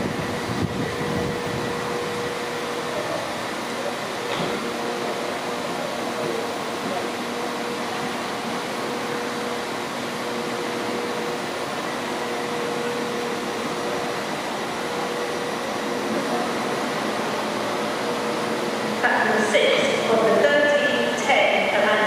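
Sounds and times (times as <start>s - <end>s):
electric train hum: 0.0s - 22.0s
train rolling noise: 0.0s - 22.0s.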